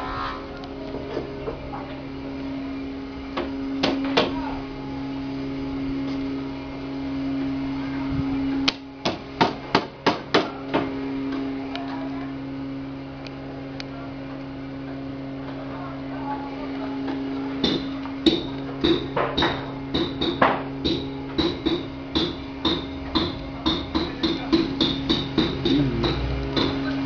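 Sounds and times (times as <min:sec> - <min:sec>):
low machine hum: 0:00.0 - 0:09.5, 0:10.5 - 0:27.0.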